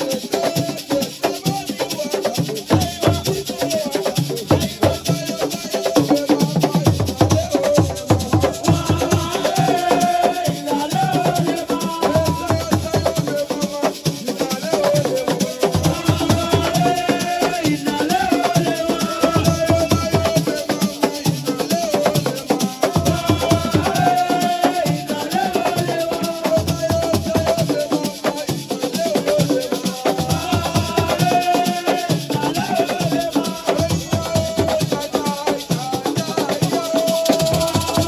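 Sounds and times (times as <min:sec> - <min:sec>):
person singing: 0:00.0 - 0:38.0
shaker rattling: 0:00.0 - 0:38.0
hand drumming: 0:05.9 - 0:38.0.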